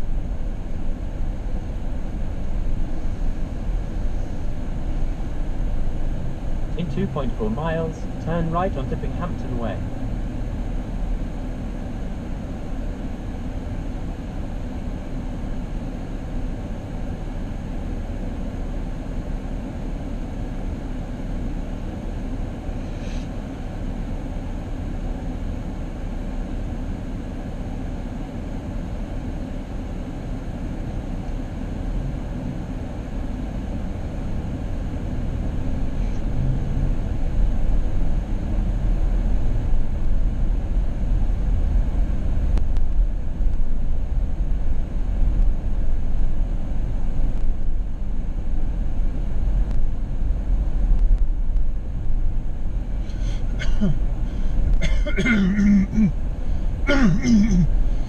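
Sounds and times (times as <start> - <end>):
car tyre and engine rumble: 0.0 - 58.0.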